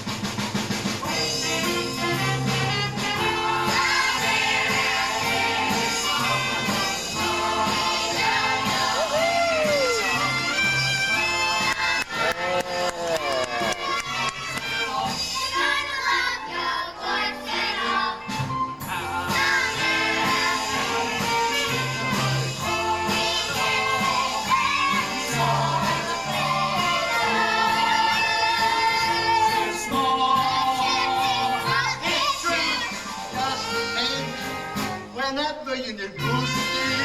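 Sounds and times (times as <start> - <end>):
instrumental show tune: 0.0 - 37.0.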